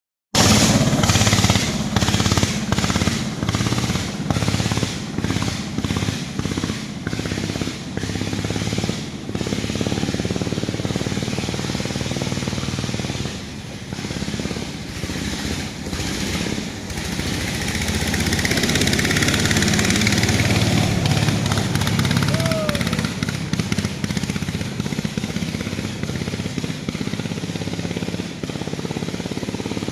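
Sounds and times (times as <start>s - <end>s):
boat engine low putter: 0.4s - 29.9s.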